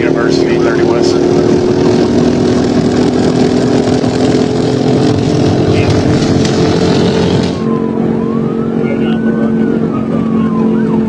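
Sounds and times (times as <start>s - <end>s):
car engine and road drone: 0.0s - 11.0s
police siren wailing: 0.0s - 11.0s.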